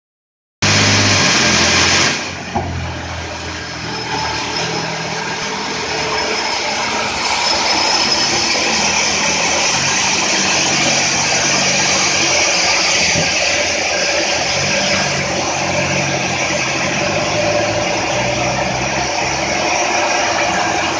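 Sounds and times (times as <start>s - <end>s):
sawmill engine drone: 0.6s - 20.9s.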